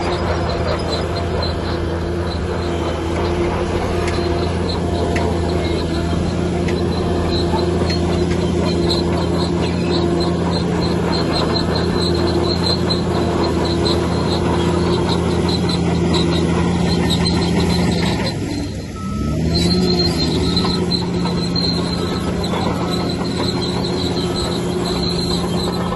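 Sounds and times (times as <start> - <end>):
heavy diesel engine running: 0.0 - 25.9
rapid high squeak: 0.0 - 25.9.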